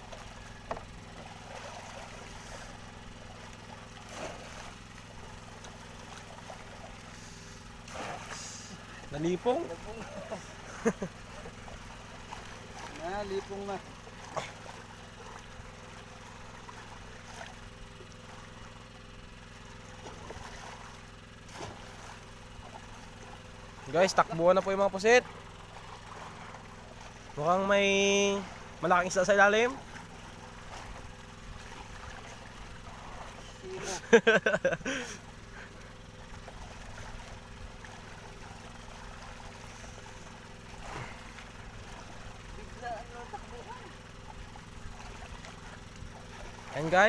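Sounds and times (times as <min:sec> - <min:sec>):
faint water splashes: 0:00.0 - 0:47.0
small engine humming: 0:00.0 - 0:47.0.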